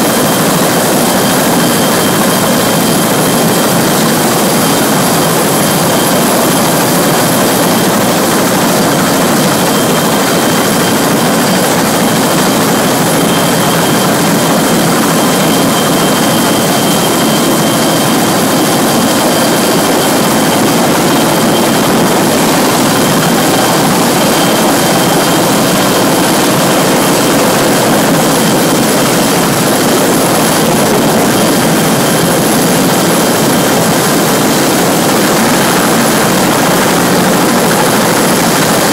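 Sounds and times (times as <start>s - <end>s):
helicopter rotor and turbine whine: 0.0s - 38.9s.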